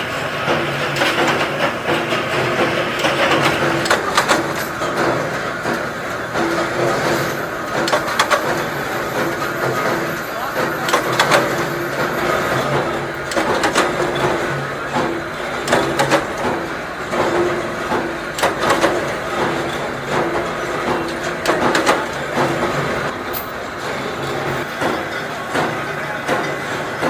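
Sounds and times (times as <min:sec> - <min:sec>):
production machinery running: 0:00.0 - 0:27.0
metallic clicks and clanks: 0:00.4 - 0:27.0.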